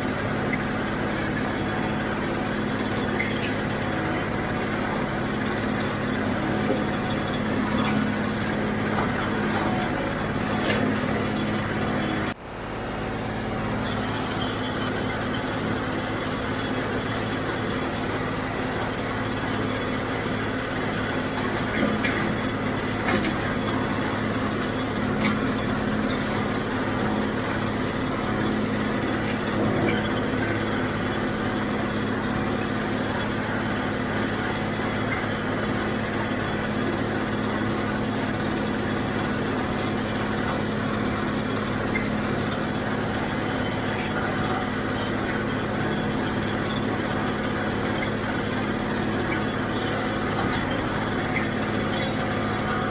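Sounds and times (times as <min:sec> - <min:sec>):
diesel tractor running: 0:00.0 - 0:52.9.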